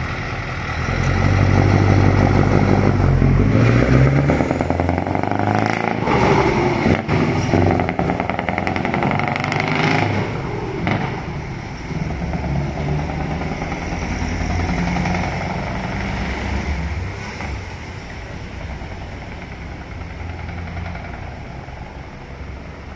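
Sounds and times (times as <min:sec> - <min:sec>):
truck exhaust driving away: 0:00.0 - 0:22.9.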